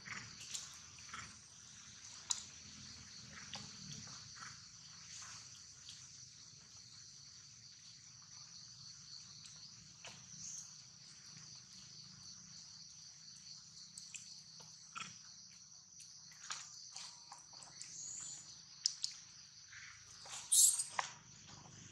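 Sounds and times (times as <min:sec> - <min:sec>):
high-pitched insect chorus: 0:00.0 - 0:21.9.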